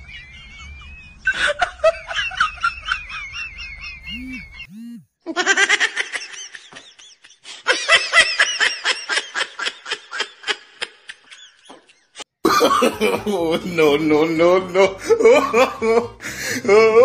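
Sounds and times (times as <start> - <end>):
person laughing hard: 0.2 - 17.0.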